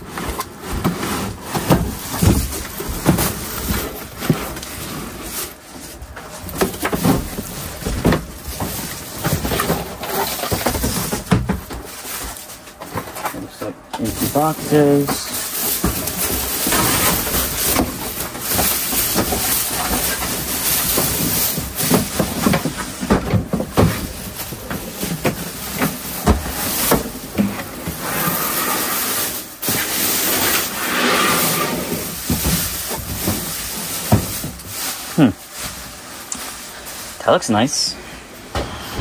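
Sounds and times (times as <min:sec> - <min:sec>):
plastic bag crinkling: 0:00.0 - 0:30.9, 0:31.9 - 0:37.8.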